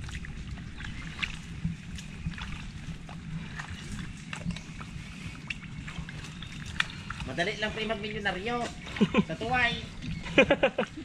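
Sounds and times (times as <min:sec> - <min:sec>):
sloshing in mud and water: 0:00.0 - 0:11.0
steady low rumble: 0:00.0 - 0:11.0.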